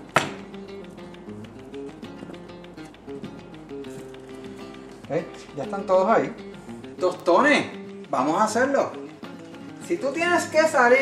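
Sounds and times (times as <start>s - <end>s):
faint ticking: 0.0s - 11.0s.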